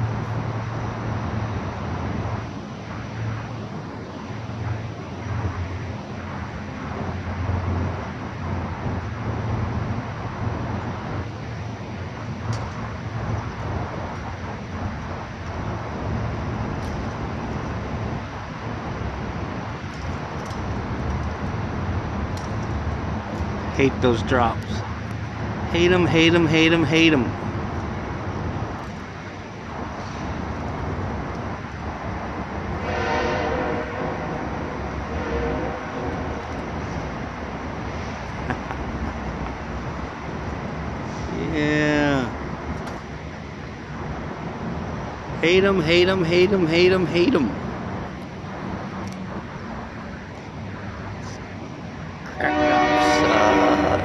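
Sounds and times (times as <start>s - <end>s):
outdoor background rumble: 0.0s - 54.0s.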